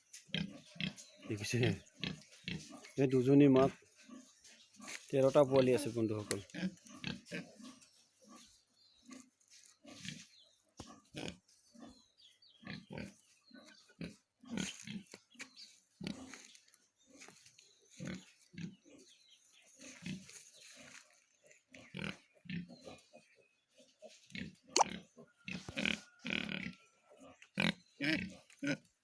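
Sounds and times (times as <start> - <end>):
pigs grunting: 0.2 - 29.0.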